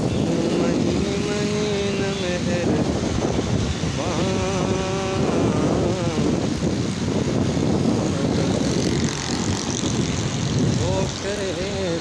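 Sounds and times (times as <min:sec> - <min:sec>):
highway traffic noise: 0:00.0 - 0:12.0.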